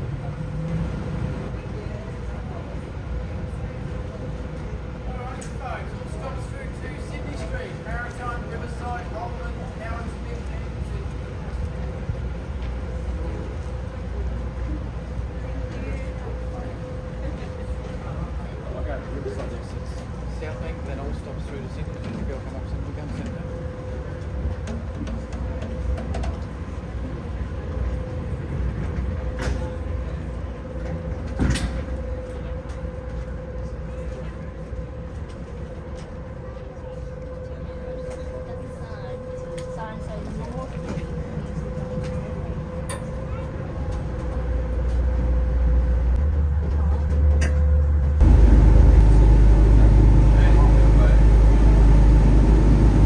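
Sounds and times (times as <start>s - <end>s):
ferry engine drone: 0.0s - 34.4s, 35.6s - 53.0s.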